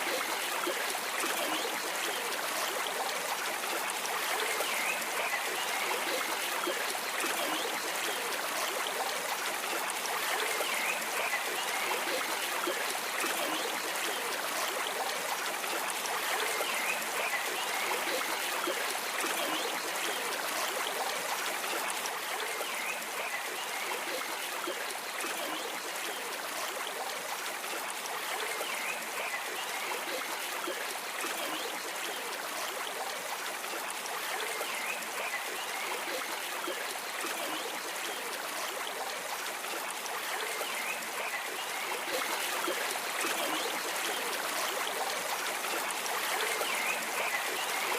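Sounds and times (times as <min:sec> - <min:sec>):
stream water flowing and trickling: 0:00.0 - 0:47.9.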